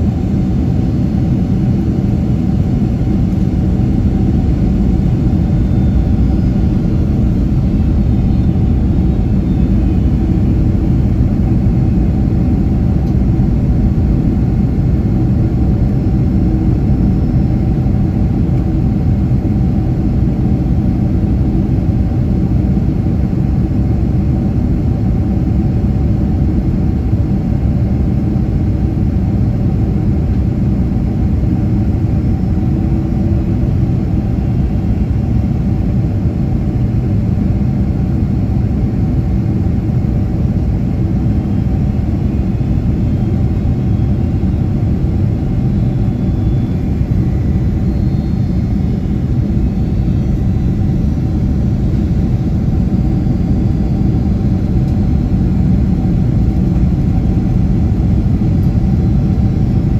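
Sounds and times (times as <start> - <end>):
jet engines low rumble: 0.0 - 59.9.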